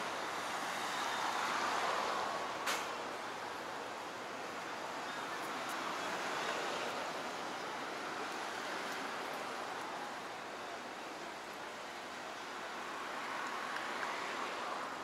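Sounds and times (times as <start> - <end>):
traffic hiss: 0.0 - 15.0.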